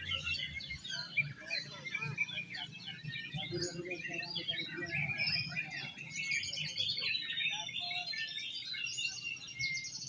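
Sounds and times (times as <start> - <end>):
birds whistling and chirping: 0.0 - 10.0.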